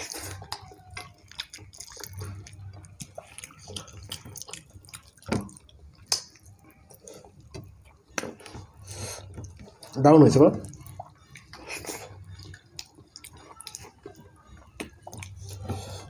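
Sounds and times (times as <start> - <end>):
wet chewing sounds: 0.0 - 16.0.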